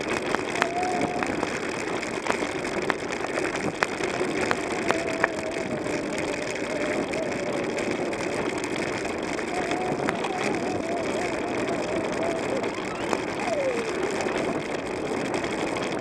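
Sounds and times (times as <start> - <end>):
bicycle clicks and rattles: 0.0 - 16.0
tyre and wind rumble: 0.0 - 16.0.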